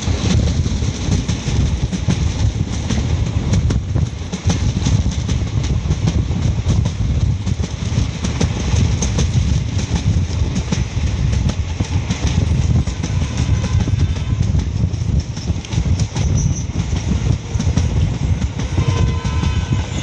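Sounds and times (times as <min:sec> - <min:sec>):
clatter of clicks over rails: 0:00.0 - 0:20.0
train wheels rumbling on track: 0:00.0 - 0:20.0.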